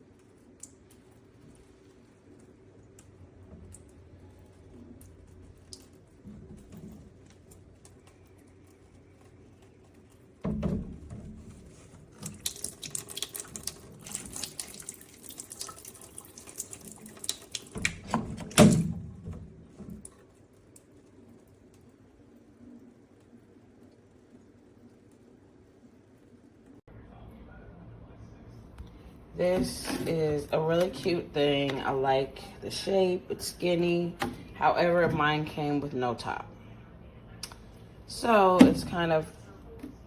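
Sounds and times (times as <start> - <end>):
water running into plastic container: 0.0 - 26.8, 29.4 - 35.6.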